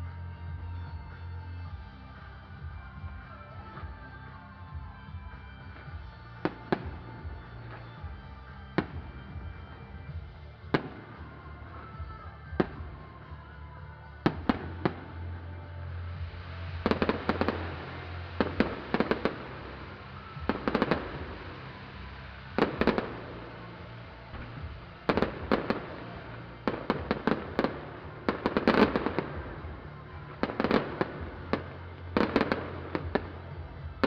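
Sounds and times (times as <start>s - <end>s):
fireworks bangs and crackling: 0.0s - 34.0s
music with steady bass: 0.0s - 34.0s.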